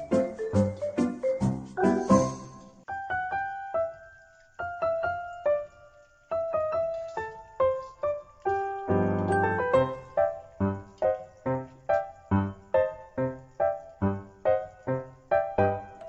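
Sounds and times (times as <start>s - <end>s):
simple melody background music: 0.0s - 16.0s.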